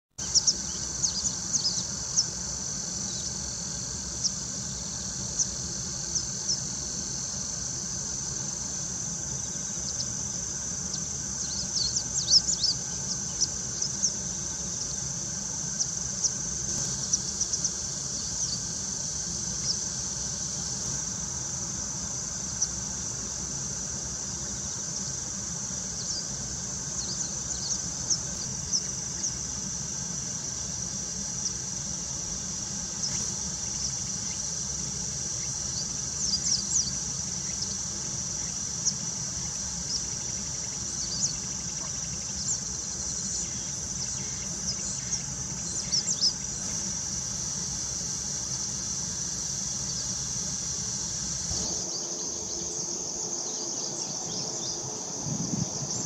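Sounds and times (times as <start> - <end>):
crickets and insects chorus: 0.2 - 56.0.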